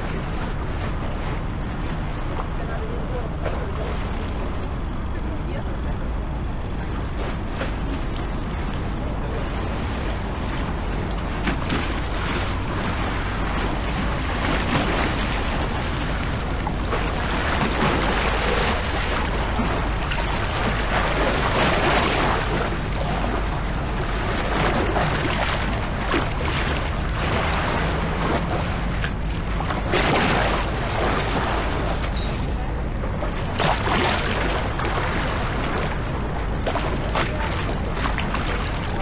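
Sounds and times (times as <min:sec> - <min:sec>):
boat engine humming: 0:00.0 - 0:39.0
water washing: 0:06.4 - 0:39.0.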